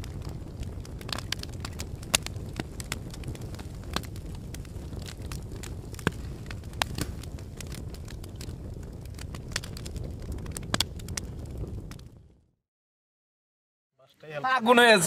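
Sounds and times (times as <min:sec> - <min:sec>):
campfire crackling and popping: 0:00.0 - 0:12.5.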